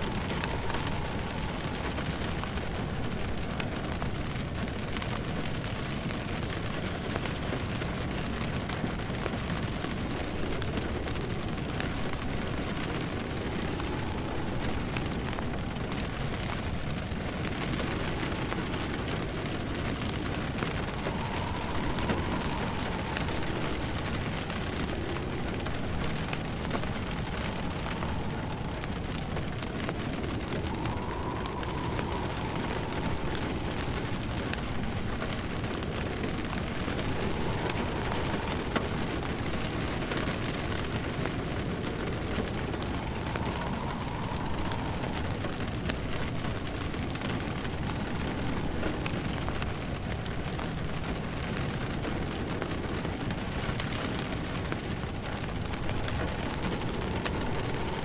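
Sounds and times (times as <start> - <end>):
steady rain: 0.0 - 58.0
wood fire crackling: 0.0 - 58.0.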